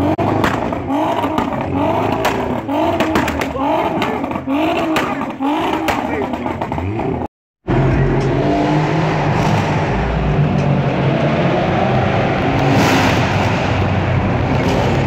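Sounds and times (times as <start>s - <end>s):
road noise in tunnel: 0.0s - 15.0s.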